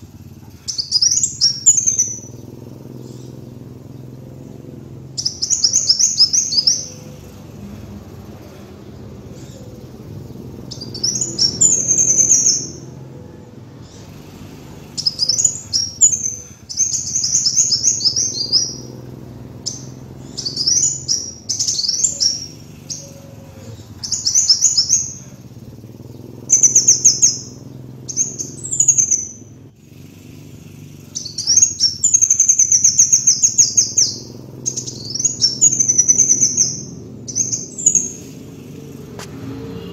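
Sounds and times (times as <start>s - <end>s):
faint low hum: 0.0s - 39.9s
sunbird singing trills: 0.0s - 39.9s.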